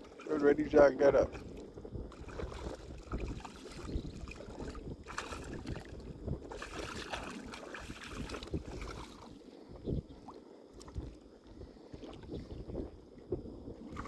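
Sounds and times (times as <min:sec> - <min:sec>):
shallow water sloshing and splashing: 0:00.0 - 0:14.0
wind buffeting microphone: 0:00.0 - 0:14.0.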